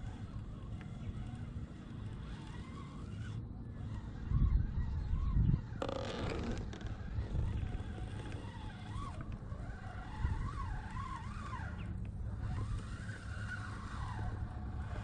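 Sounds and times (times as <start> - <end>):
fishing reel drag squealing: 0.0 - 15.0
low steady rumble: 0.0 - 15.0.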